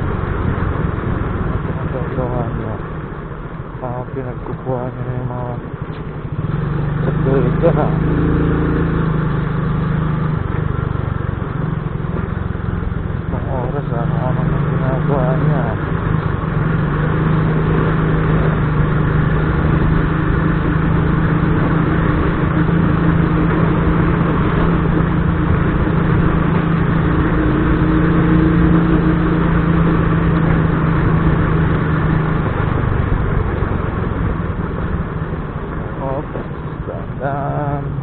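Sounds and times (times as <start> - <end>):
motorcycle engine running: 0.0 - 38.0
road and wind noise: 0.0 - 38.0.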